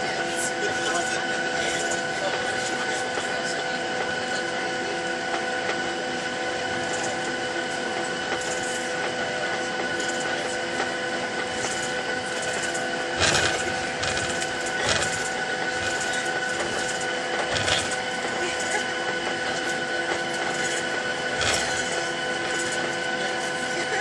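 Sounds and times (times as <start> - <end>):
jet engines whining at idle: 0.0 - 24.0.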